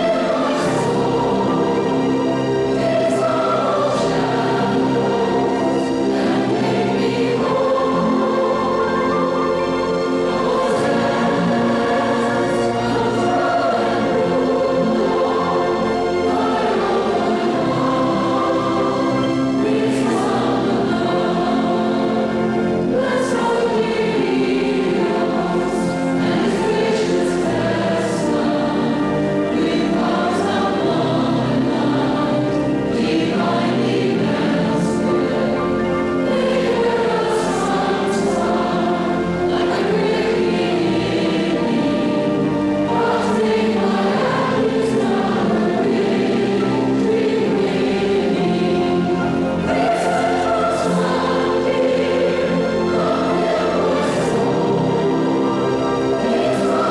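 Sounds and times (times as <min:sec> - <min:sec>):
congregation singing a hymn: 0:00.0 - 0:56.9.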